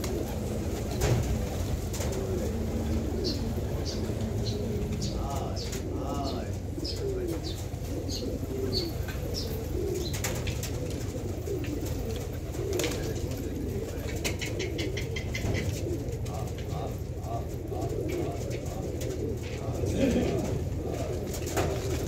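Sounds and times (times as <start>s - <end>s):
pigeons cooing: 0.0s - 22.0s
wings flapping: 0.0s - 22.0s.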